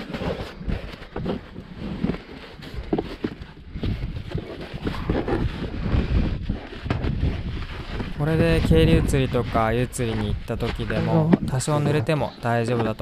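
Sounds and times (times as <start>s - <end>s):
rubber mat rubbing: 0.0s - 13.0s.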